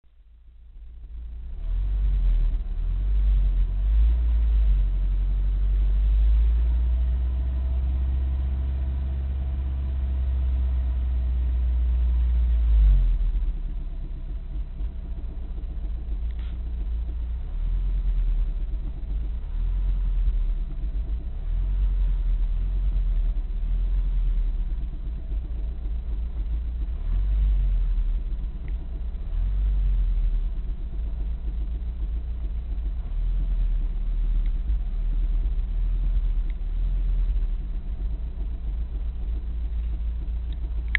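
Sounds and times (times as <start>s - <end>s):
knocking engine rumble: 0.0s - 40.9s.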